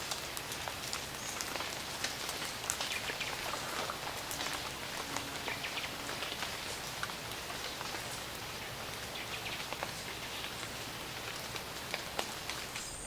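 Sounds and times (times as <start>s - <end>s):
rain hissing: 0.0s - 13.0s
raindrops striking: 0.0s - 13.0s.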